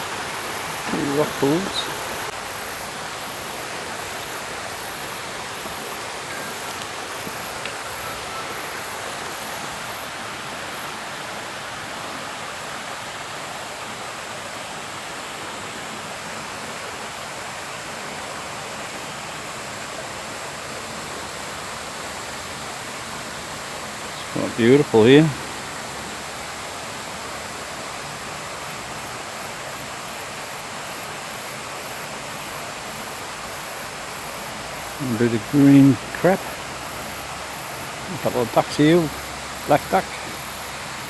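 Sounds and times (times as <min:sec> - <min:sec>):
water rushing over rocks: 0:00.0 - 0:41.0.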